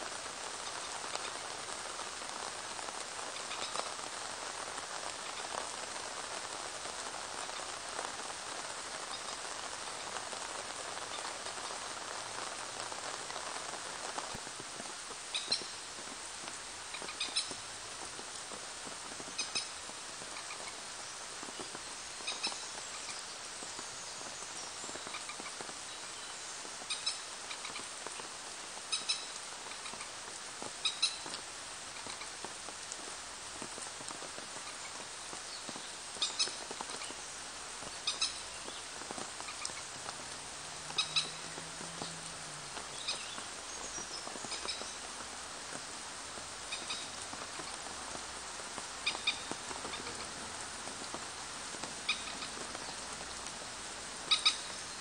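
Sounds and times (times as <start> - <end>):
rain on pond and foliage: 0.0 - 55.0.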